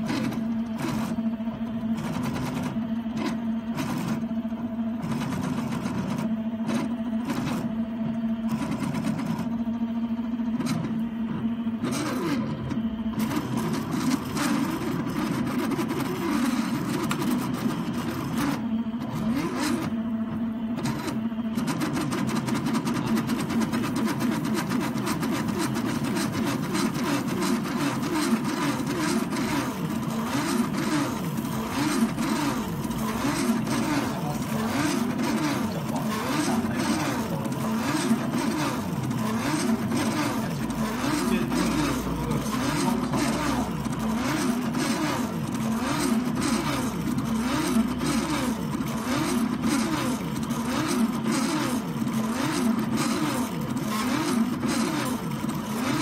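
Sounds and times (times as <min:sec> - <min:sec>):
motor whine gliding in pitch: 0:00.0 - 0:56.0
stepper motors whirring: 0:00.0 - 0:56.0.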